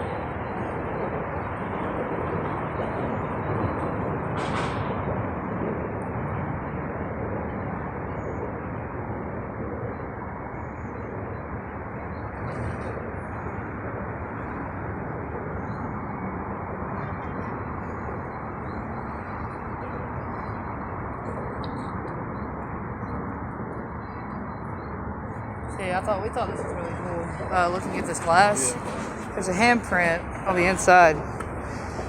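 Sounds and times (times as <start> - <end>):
steady outdoor noise: 0.0 - 32.0.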